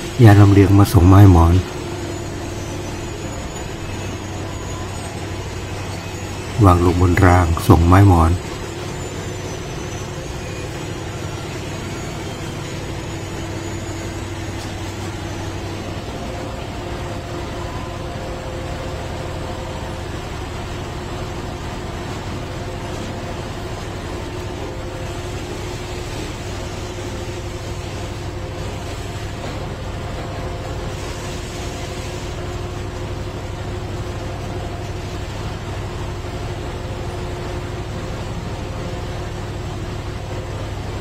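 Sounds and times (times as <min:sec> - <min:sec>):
heavy diesel engine droning: 0:00.0 - 0:41.0.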